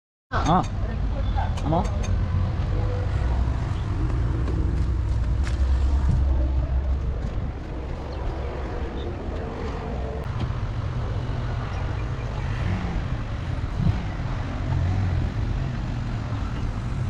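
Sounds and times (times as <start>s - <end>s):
vehicle engine rumbling: 0.3s - 17.0s.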